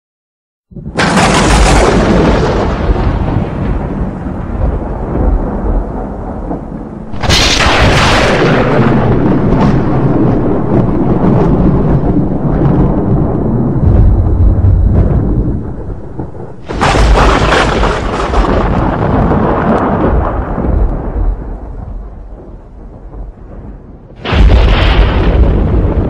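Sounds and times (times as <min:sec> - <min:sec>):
sharp thunder crack: 0:00.7 - 0:26.0
thunder rumbling: 0:00.7 - 0:26.0.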